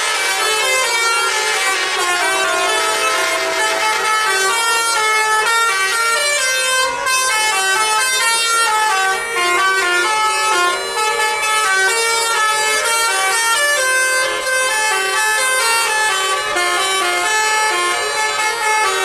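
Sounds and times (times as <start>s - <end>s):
air horns playing a melody: 0.0s - 19.0s.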